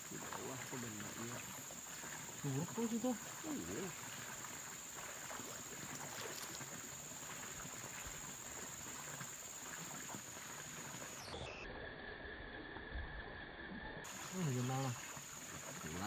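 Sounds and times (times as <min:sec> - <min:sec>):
outdoor background hiss: 0:00.0 - 0:12.1, 0:13.8 - 0:16.0.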